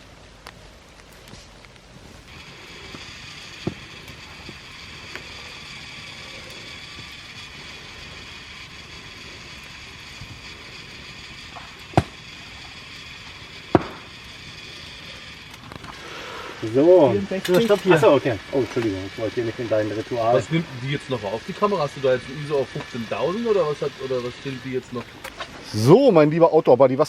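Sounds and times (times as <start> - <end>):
meat sizzling: 0.0 - 26.2
fire popping: 0.0 - 27.0.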